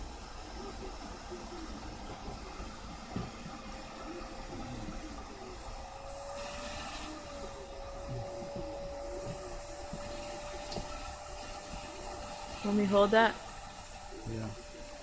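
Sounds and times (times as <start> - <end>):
small machine humming and hissing: 0.0 - 15.0.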